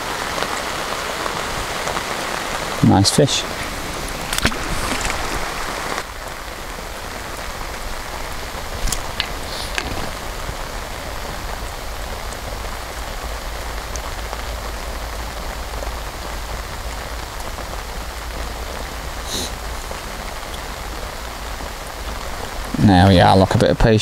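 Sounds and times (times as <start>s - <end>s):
heavy rain on water: 0.0s - 24.0s.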